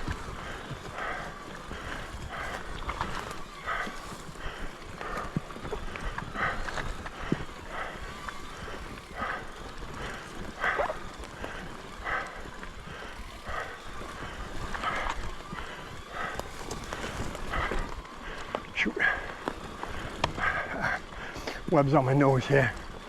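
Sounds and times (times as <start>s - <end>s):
mountain bike rolling on rough trail: 0.0s - 23.0s
rider breathing hard: 0.0s - 23.0s.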